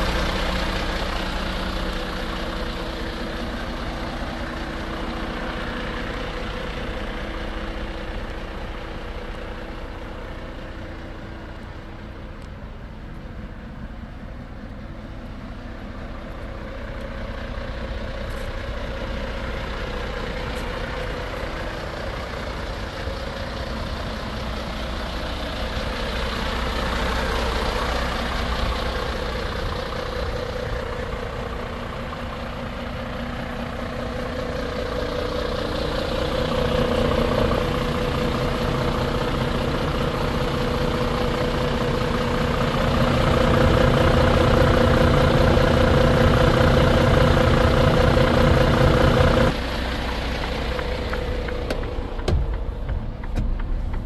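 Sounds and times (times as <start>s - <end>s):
truck diesel engine idling: 0.0s - 54.0s.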